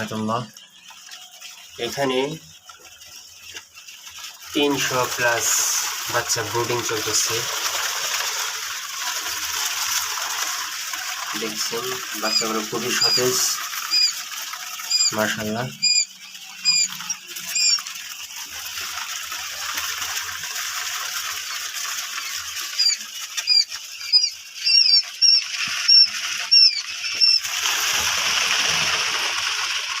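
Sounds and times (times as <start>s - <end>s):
quail chicks peeping: 0.0s - 29.9s.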